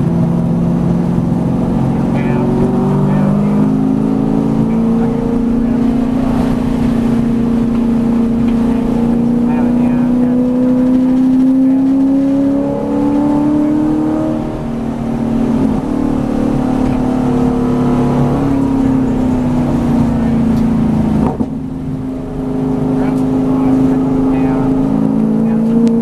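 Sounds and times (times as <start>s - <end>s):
race car engine from inside cabin: 0.0s - 26.0s.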